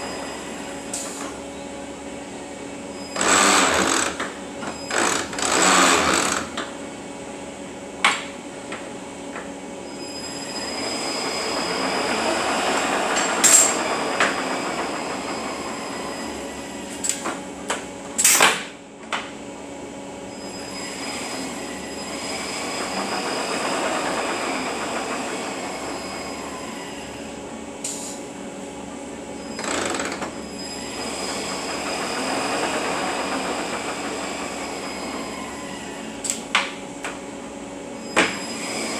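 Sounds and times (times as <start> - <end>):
truck transmission humming and whining: 0.0 - 38.9.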